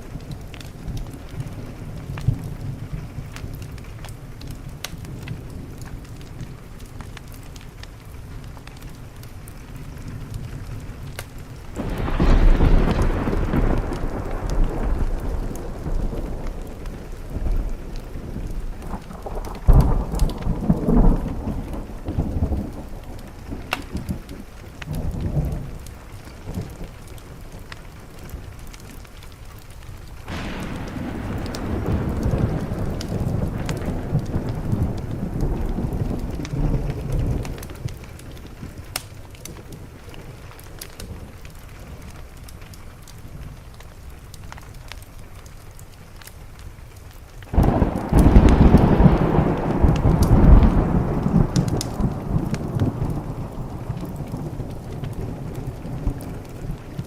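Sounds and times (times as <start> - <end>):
thunder rumbling: 0.0 - 44.2, 47.5 - 57.0
steady rain: 0.0 - 57.0.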